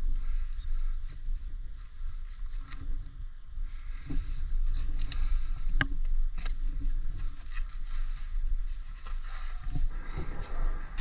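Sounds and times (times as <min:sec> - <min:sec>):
low rumbling noise: 0:00.0 - 0:11.0.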